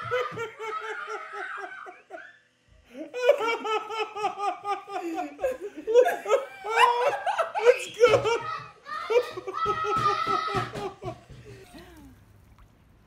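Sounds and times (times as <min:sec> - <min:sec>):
high-pitched laughter: 0:00.0 - 0:11.2.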